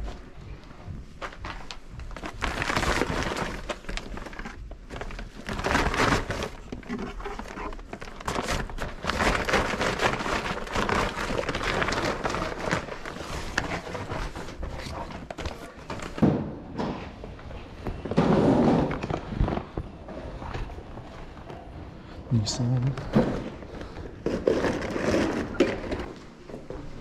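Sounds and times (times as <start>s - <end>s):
rustling and crinkling: 0.0s - 27.0s.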